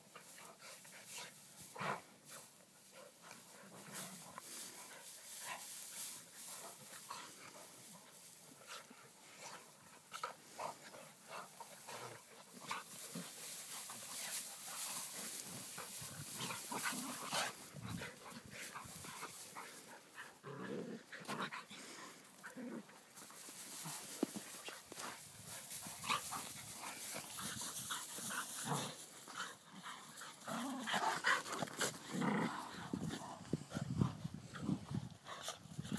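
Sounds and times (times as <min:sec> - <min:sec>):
dogs scuffling in hay: 0:00.1 - 0:20.2, 0:22.4 - 0:32.0.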